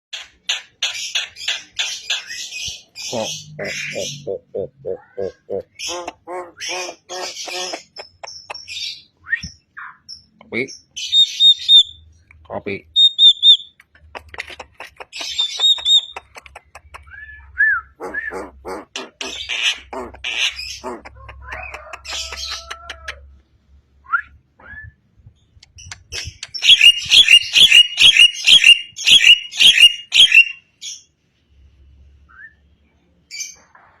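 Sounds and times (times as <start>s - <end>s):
bird singing chattering song: 0.2s - 22.8s, 25.3s - 31.1s.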